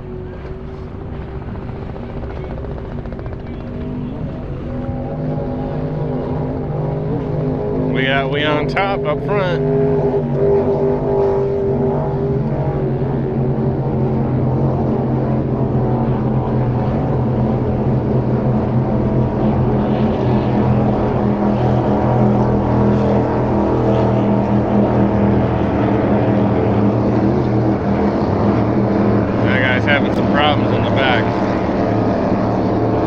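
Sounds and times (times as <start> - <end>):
powerboat engines droning: 0.0 - 33.0.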